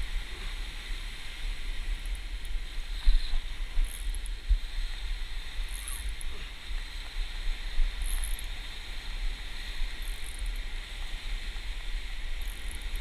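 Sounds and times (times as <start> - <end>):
surf washing over rocks: 0.0 - 13.0.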